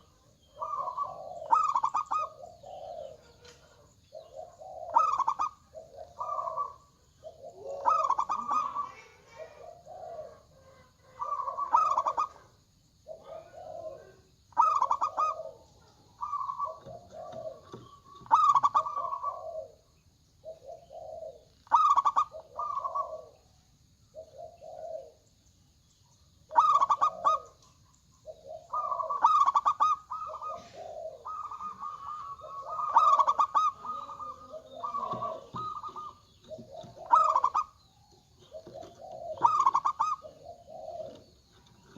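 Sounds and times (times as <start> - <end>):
doves cooing: 0.0 - 25.4, 26.2 - 41.9.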